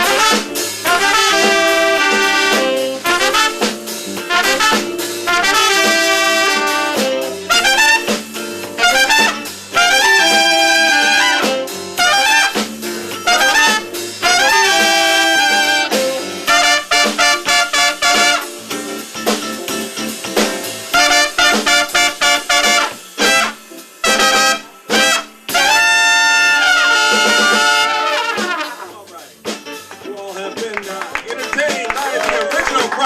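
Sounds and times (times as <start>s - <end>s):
horn-led jazz music: 0.0s - 32.9s.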